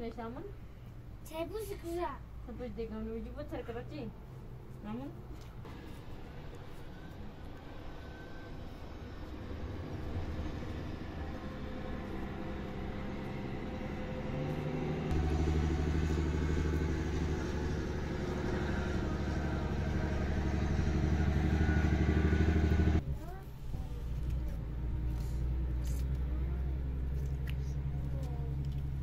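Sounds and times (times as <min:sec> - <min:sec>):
engine humming: 0:02.3 - 0:29.0.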